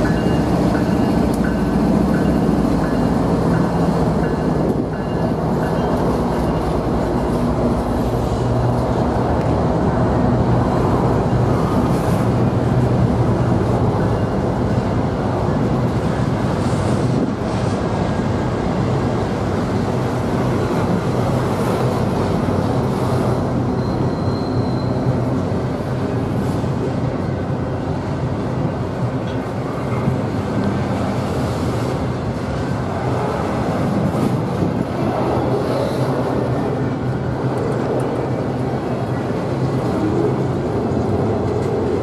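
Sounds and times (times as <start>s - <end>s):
train clanks: 0.0s - 42.0s
train wheels rumbling on rail: 0.0s - 42.0s.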